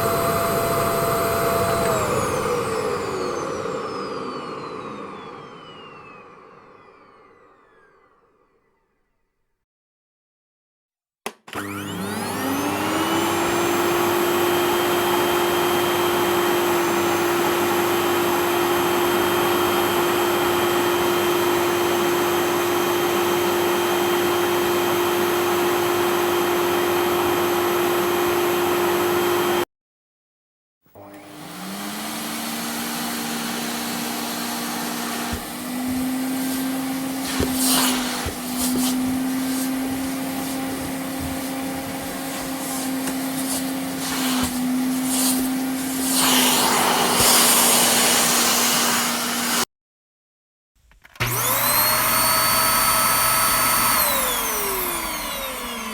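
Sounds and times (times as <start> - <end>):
vacuum cleaner motor whining: 0.0 - 9.0, 11.3 - 29.6, 30.9 - 49.7, 51.1 - 55.9.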